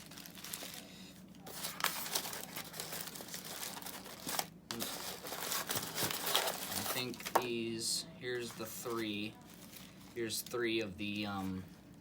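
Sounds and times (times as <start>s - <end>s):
packaging crinkling and rustling: 0.0s - 7.6s, 8.4s - 11.7s.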